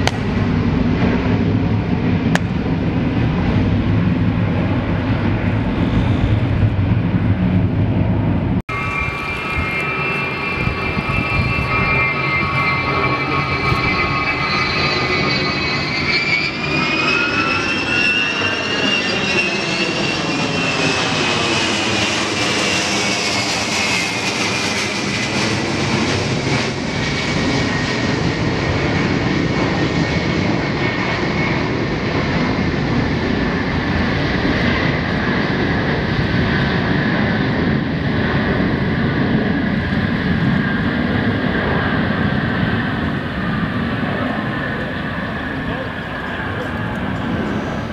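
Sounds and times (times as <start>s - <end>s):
jet engines with high whine: 0.0s - 47.9s.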